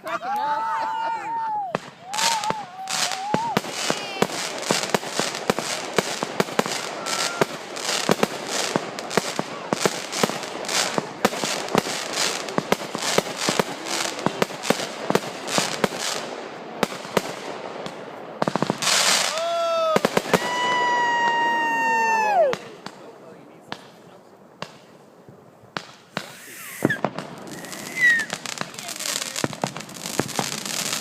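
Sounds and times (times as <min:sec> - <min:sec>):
fireworks bangs and crackling pops: 0:01.6 - 0:31.0.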